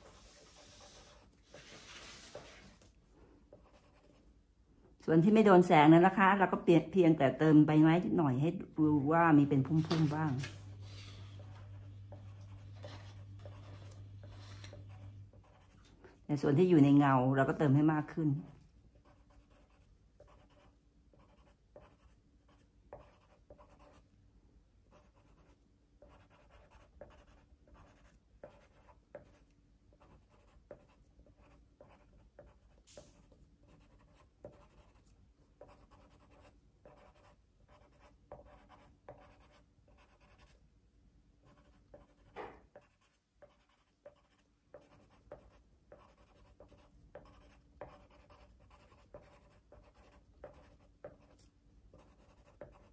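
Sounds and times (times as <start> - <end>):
pencil scratching on paper: 0.0 - 2.8, 3.5 - 4.3, 9.6 - 15.9, 18.5 - 24.0, 24.9 - 40.6, 41.4 - 52.9.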